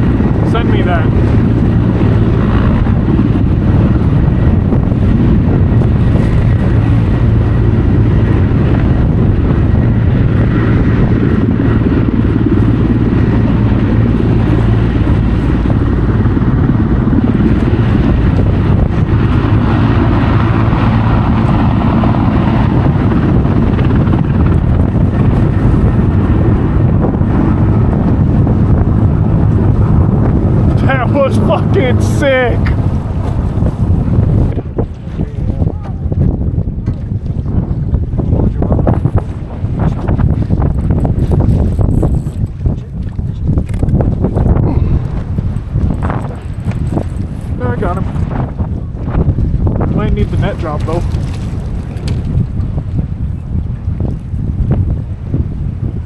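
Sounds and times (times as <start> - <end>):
helicopter engine and rotor noise: 0.0 - 35.0, 38.3 - 51.2
wind buffeting microphone: 0.0 - 56.0.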